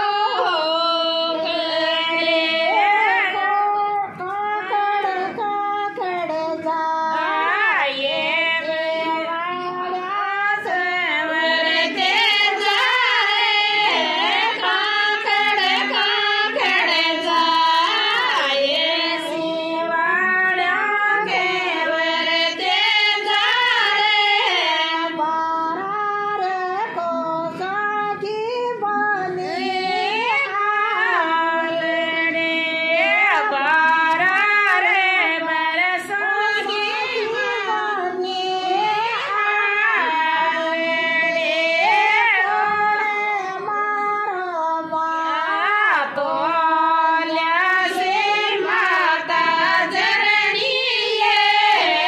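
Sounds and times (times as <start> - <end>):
women singing unaccompanied: 0.0 - 52.0.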